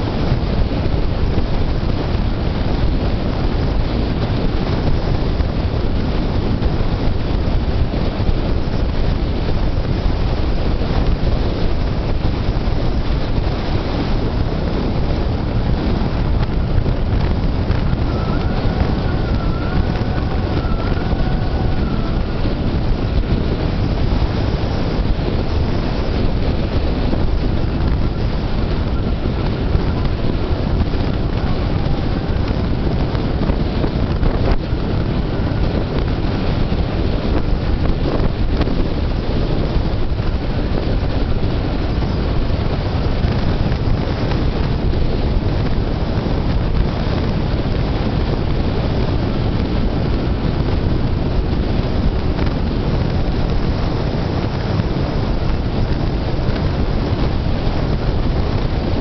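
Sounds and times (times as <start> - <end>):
tyre and road noise: 0.0 - 59.0
wind buffeting microphone: 0.0 - 59.0.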